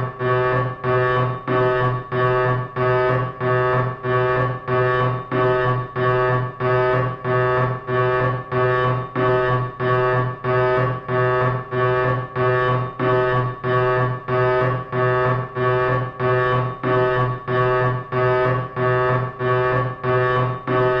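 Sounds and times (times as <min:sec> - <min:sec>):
security alarm buzzy pulses: 0:00.0 - 0:21.0.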